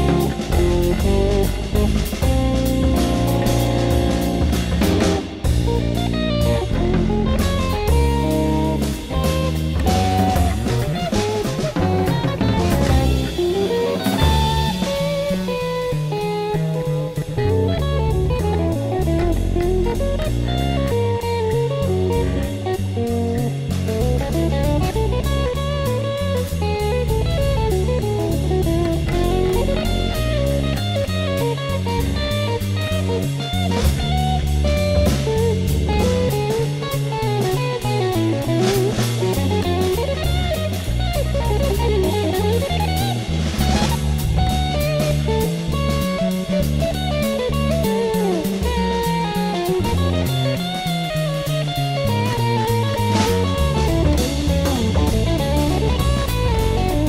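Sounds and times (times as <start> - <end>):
bass guitar: 0.0 - 57.0
drum kit with cymbals: 0.0 - 57.0
electric guitar melody: 0.0 - 57.0.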